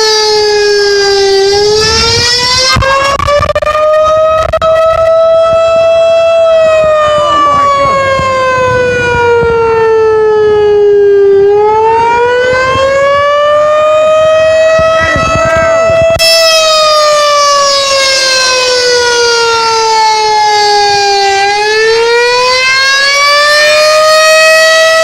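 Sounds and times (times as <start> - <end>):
warning siren wailing: 0.0 - 25.0.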